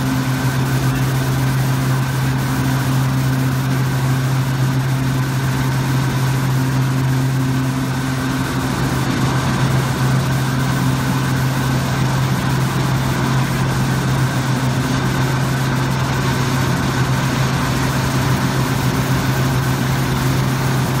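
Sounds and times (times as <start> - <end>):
machine drone with low hum: 0.0 - 21.0.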